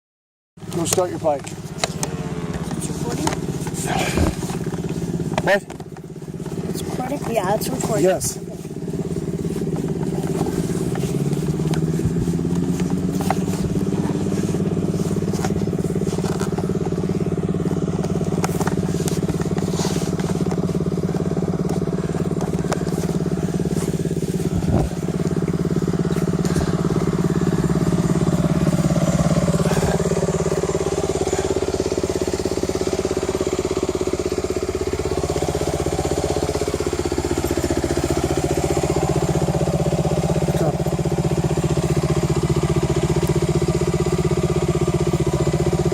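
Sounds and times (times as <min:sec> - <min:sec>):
dirt bike engine running: 0:00.6 - 0:45.9.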